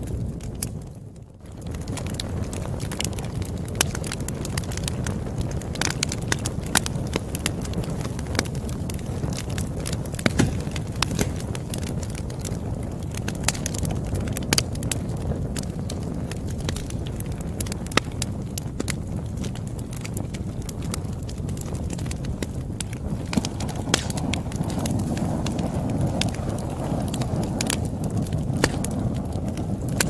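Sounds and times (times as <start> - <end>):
burning wood popping: 0.0 - 30.0
campfire crackling: 0.0 - 30.0.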